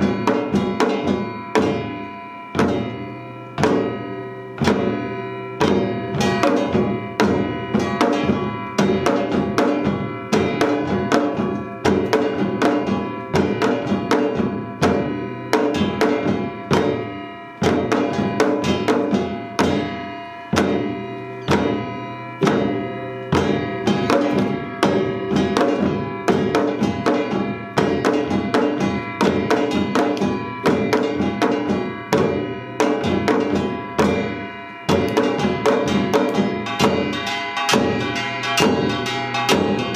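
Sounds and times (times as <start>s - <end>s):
drums striking fast rhythms: 0.0s - 39.9s
metal gong ringing: 0.0s - 39.9s.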